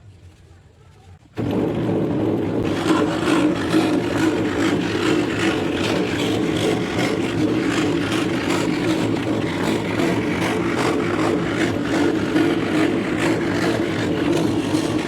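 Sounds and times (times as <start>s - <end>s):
scroll saw cutting wood: 2.6s - 15.0s.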